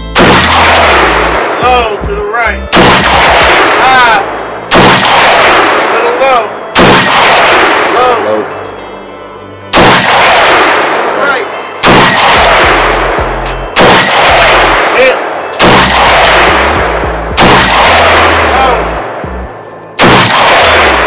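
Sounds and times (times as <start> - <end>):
pistol shots with echo: 0.1 - 1.6, 2.7 - 8.5, 9.7 - 19.2, 20.0 - 21.0.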